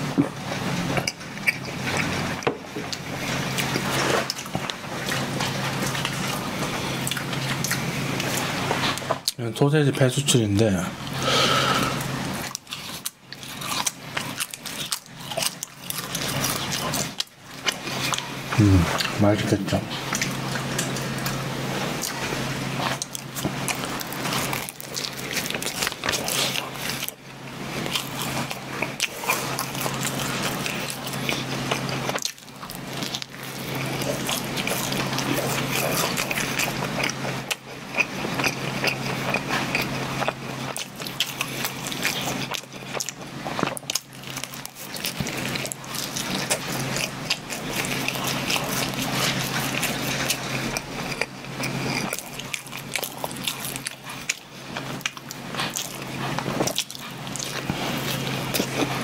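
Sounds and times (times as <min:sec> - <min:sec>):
biting and chewing pastry: 0:00.0 - 0:59.0
crisp crust crackles: 0:11.3 - 0:59.0.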